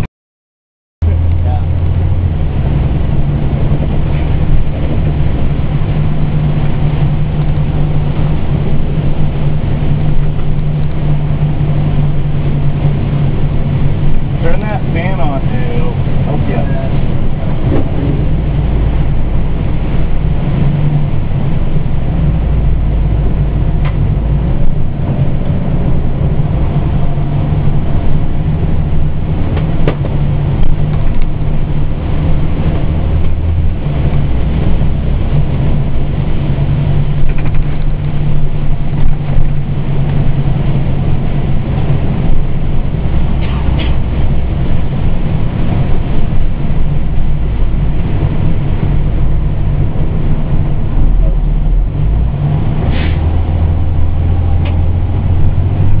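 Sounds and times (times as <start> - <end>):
diesel engine droning in cab: 1.0 - 56.0.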